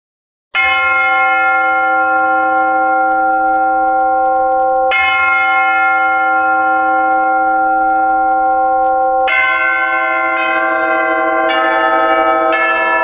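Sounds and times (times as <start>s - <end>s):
church bells ringing: 0.6s - 13.0s.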